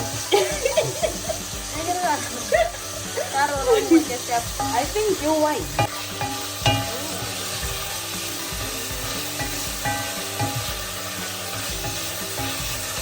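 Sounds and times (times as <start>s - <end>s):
background music: 0.0s - 13.0s
meat sizzling in hot oil: 0.0s - 13.0s.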